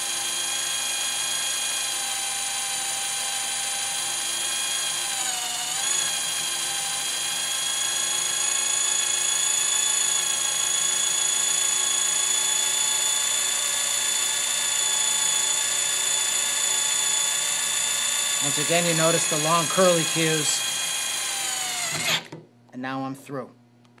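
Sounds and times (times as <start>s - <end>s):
electric drill boring into steel: 0.0s - 22.3s.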